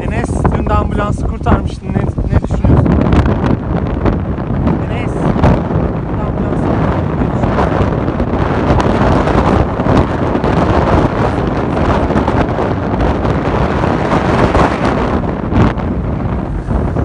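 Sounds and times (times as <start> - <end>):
wind blowing across microphone: 0.0 - 17.0.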